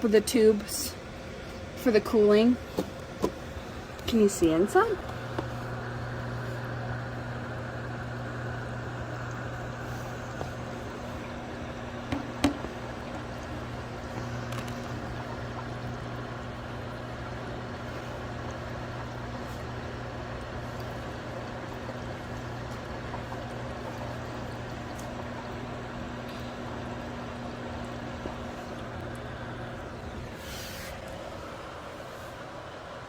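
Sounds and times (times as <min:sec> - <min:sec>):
air cooler fan motor hum: 0:00.0 - 0:33.0
water trickling: 0:03.5 - 0:31.6.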